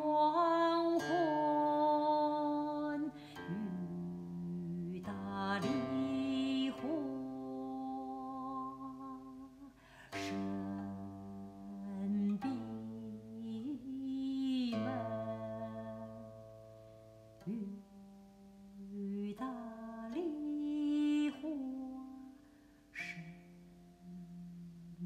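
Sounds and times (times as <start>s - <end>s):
person singing softly: 0.0s - 25.0s.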